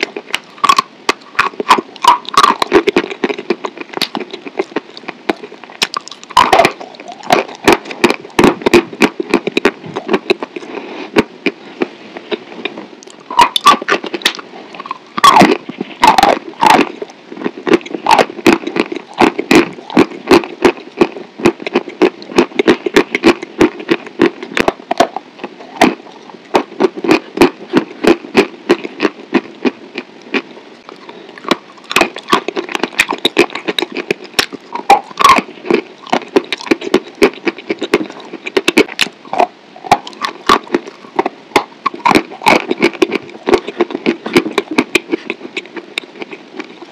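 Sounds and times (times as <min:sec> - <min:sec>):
person chewing sticky food: 0:00.0 - 0:46.9.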